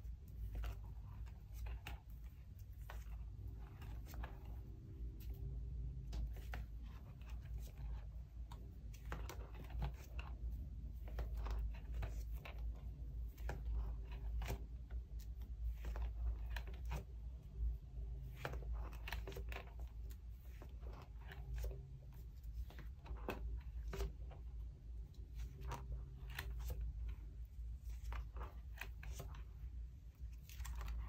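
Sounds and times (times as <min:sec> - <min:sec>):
plastic binder pages rustling: 0:00.0 - 0:31.0.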